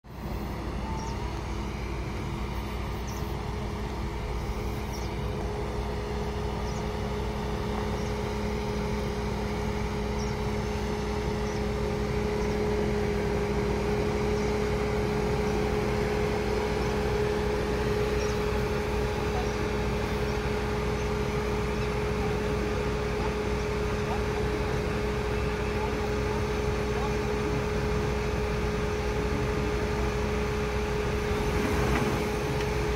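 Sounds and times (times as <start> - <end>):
car engine at steady throttle: 0.0 - 32.9.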